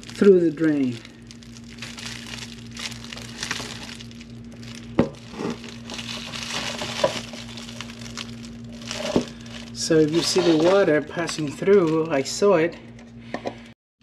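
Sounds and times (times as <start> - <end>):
crinkling and clinking handling noise: 0.0 - 12.4
low hum: 0.0 - 13.8.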